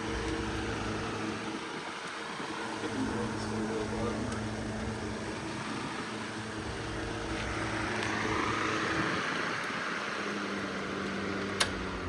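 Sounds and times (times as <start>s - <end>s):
air rushing off fan blades: 0.0s - 12.0s
fan motor hum: 0.0s - 12.0s.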